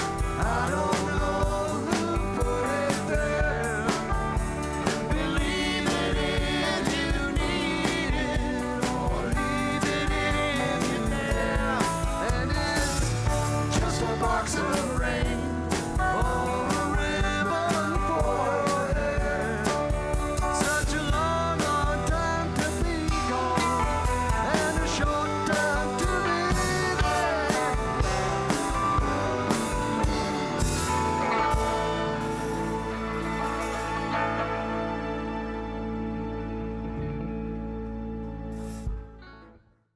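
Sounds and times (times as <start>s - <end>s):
live rock band playing: 0.0s - 39.4s
bending lead melody: 0.0s - 39.6s.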